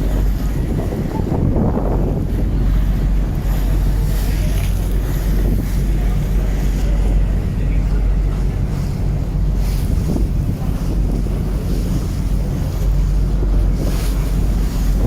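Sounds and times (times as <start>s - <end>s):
boat engine drone: 0.0s - 15.0s
water rushing past hull: 0.0s - 15.0s
wind buffeting microphone: 0.0s - 15.0s.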